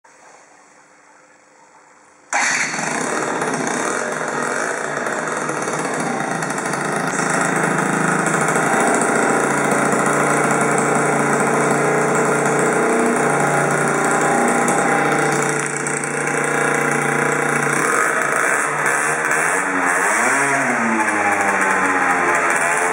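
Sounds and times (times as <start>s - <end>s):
scooter engine idling: 2.3s - 22.9s.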